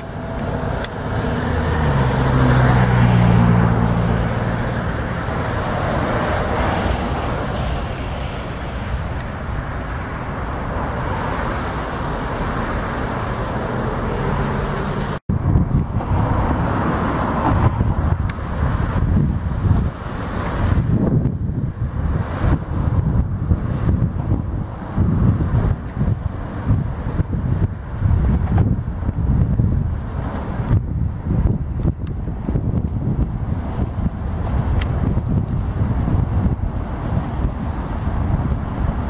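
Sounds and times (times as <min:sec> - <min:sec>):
rushing traffic: 0:00.0 - 0:39.0.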